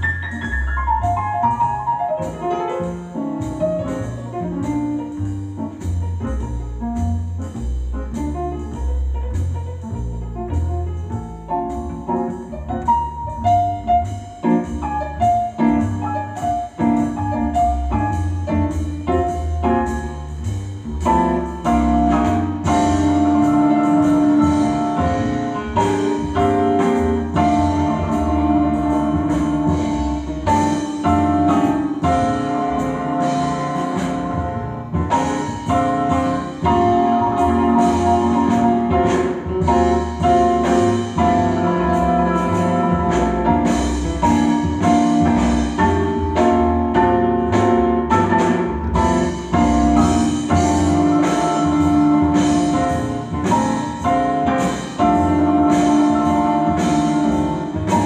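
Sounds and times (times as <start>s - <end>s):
jazz piano through a loudspeaker: 0.0s - 58.0s.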